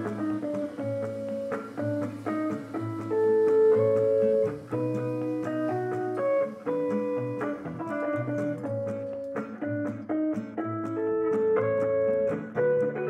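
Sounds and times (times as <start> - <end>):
plucked string notes: 0.0 - 13.0.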